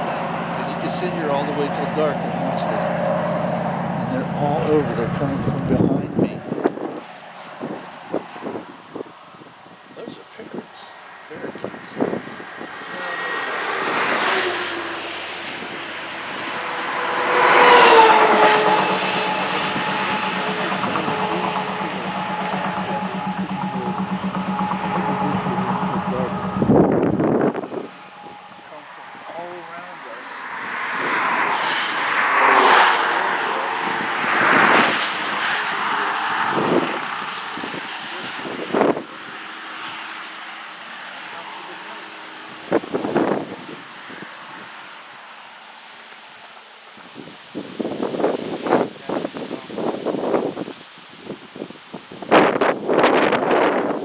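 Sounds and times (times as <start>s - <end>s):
vehicle passing close: 0.0s - 46.0s
highway traffic passing: 0.0s - 54.0s.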